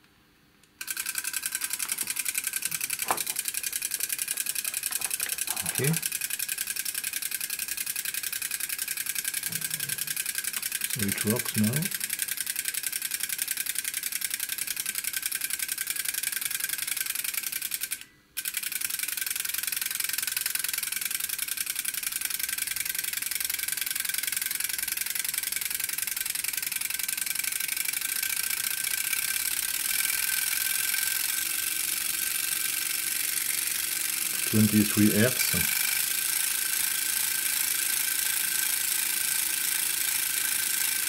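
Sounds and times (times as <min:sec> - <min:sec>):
mechanical counter clicking rapidly: 0:00.8 - 0:41.0.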